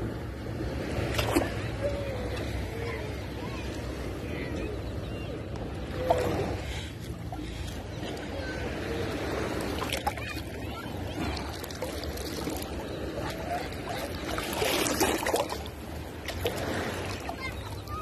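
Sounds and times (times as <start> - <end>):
wading through water: 0.0 - 18.0
water splashing in surf: 0.0 - 18.0.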